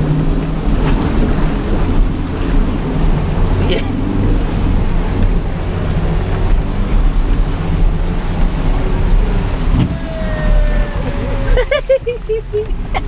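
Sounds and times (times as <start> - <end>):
car engine running: 0.0 - 13.0
water rushing and sloshing: 0.0 - 13.0.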